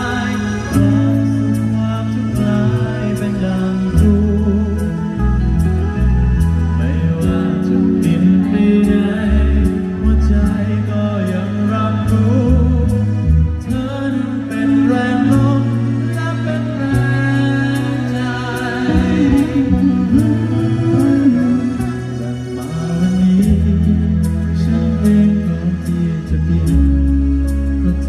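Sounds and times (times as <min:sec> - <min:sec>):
amplified music with bass and drums: 0:00.0 - 0:28.0
man singing into a microphone: 0:00.0 - 0:28.0.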